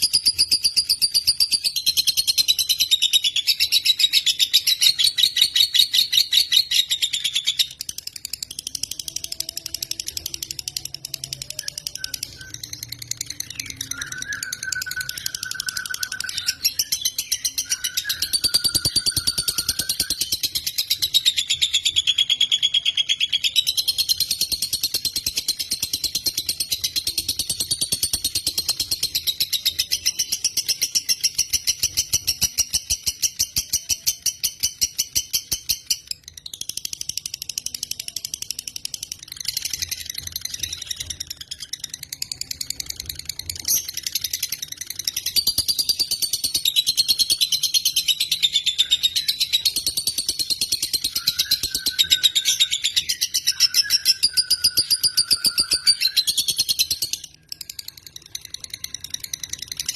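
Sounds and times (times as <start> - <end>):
lovebird chirping: 0.0 - 36.5, 37.6 - 59.9.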